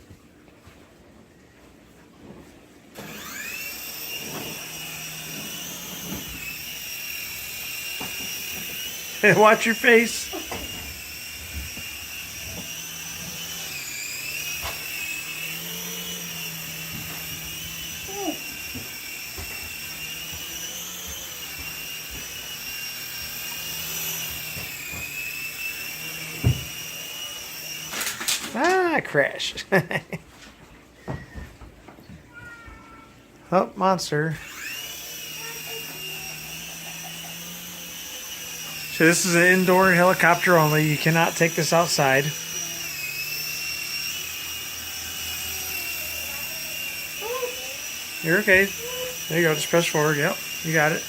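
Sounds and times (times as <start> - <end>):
toy helicopter rotor whine: 3.0 - 30.0, 34.1 - 51.0.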